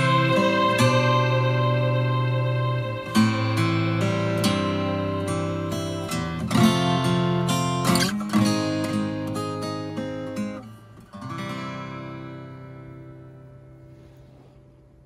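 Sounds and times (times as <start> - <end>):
acoustic guitar strumming chords: 0.0 - 14.7.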